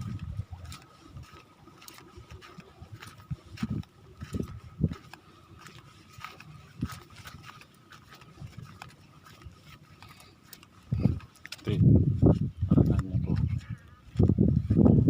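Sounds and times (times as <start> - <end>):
footsteps on a trail: 0.0 - 15.0.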